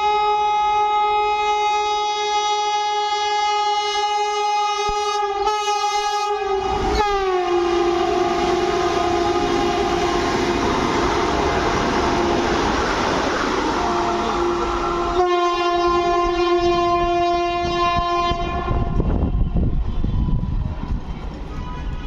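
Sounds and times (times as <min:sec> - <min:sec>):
train horn long note: 0:00.0 - 0:20.6
train rushing past: 0:03.5 - 0:22.0.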